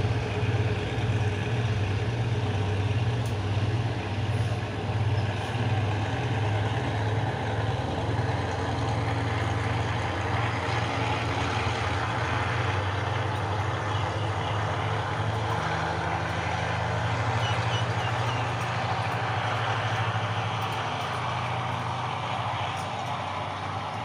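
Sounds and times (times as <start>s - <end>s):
train engine hum: 0.0s - 24.0s
train rumbling on track: 0.0s - 24.0s.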